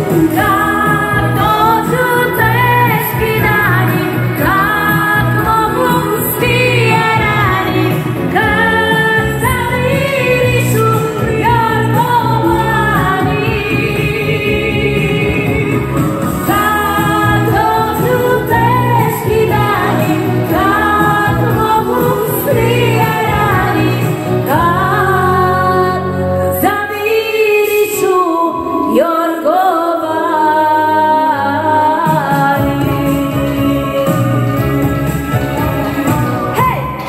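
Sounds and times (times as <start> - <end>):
loud backing music: 0.0 - 29.4, 31.1 - 37.0
woman singing into a microphone: 0.0 - 37.0.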